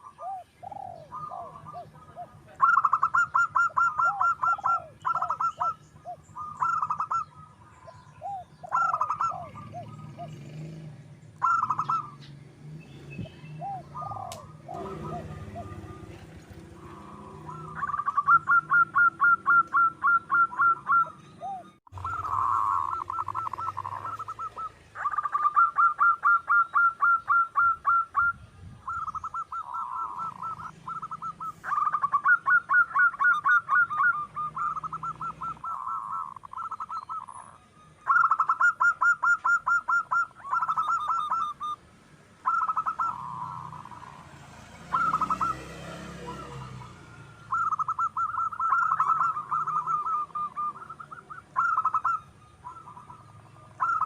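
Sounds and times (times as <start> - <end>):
dove cooing: 0.0 - 12.4, 13.2 - 41.8, 42.4 - 54.0.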